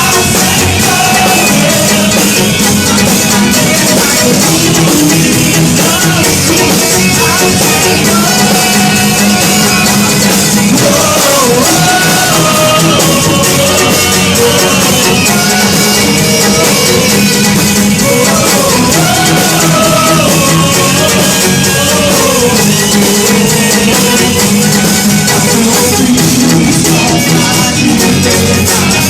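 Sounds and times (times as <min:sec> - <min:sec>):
band playing praise song: 0:00.0 - 0:29.0
people singing: 0:00.0 - 0:29.0.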